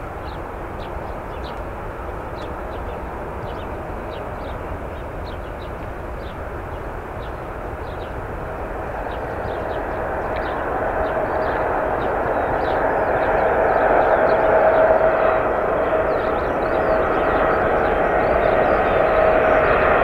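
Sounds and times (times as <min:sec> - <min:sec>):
jet engine rumble: 0:00.0 - 0:20.0
jet fan whine: 0:00.0 - 0:20.0.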